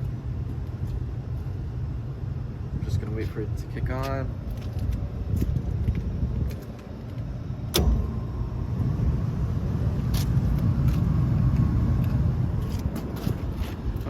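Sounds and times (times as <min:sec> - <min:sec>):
blower fan rumbling: 0:00.0 - 0:14.0.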